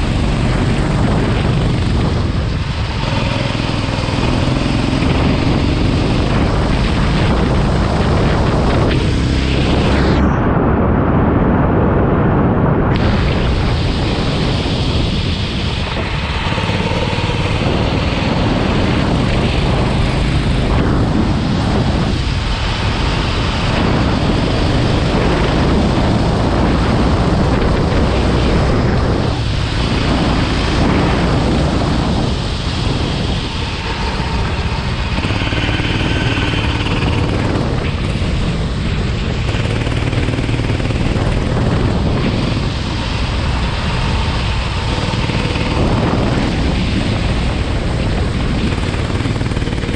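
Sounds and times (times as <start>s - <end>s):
go-kart engine revving: 0.0s - 10.2s, 13.0s - 49.9s
steady rushing noise: 0.0s - 49.9s.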